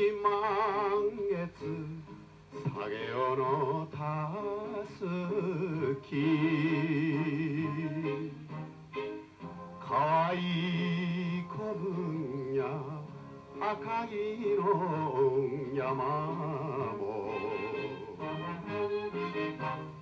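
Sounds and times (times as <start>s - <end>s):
man singing into microphone: 0.0s - 8.5s, 9.8s - 18.5s
instrumental accompaniment: 0.0s - 20.0s.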